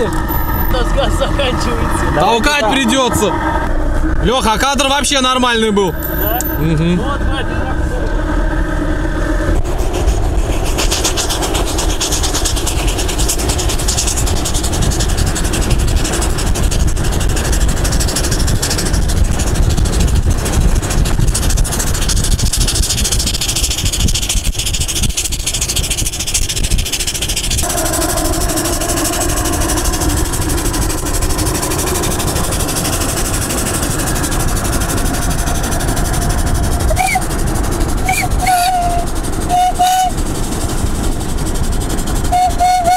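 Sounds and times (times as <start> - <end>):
steady hum: 0.0 - 24.6, 25.2 - 42.3
steam engine hissing: 0.0 - 42.9
wind and road noise: 0.0 - 42.9.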